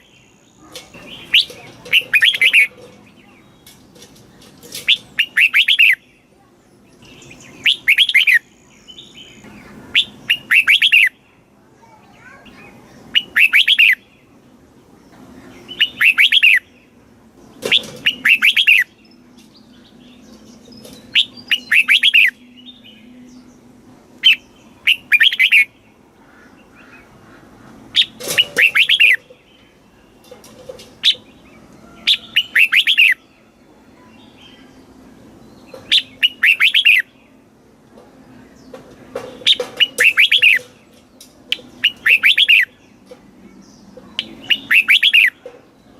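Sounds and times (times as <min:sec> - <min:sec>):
bulbul singing: 0:00.0 - 0:45.9.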